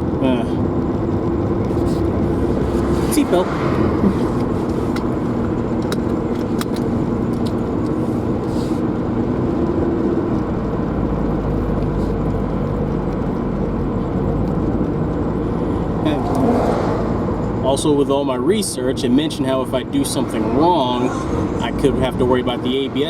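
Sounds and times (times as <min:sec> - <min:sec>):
car engine and tyre noise: 0:00.0 - 0:23.0
deep rumble: 0:00.0 - 0:23.0.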